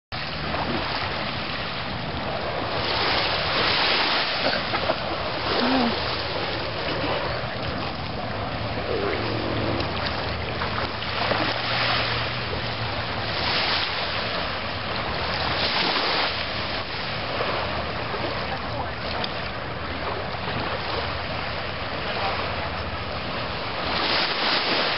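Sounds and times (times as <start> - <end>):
surf washing onto beach: 0.2 - 24.9
wind on microphone: 0.2 - 24.9.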